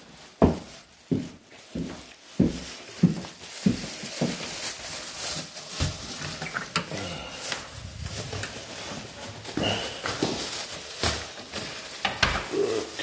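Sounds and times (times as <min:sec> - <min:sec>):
footsteps on hard floor: 0:00.0 - 0:06.8, 0:07.4 - 0:12.4.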